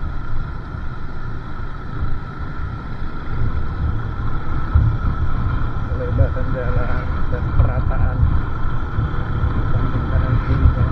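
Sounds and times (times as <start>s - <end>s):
motorcycle engine rumble: 0.0s - 10.9s
wind buffeting microphone: 0.0s - 10.9s.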